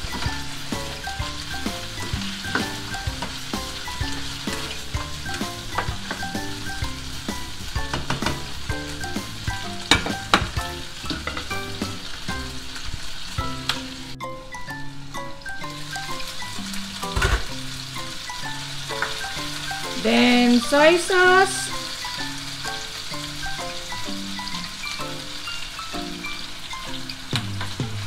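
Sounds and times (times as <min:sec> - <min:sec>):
food sizzling in frying pan: 0:00.0 - 0:28.0.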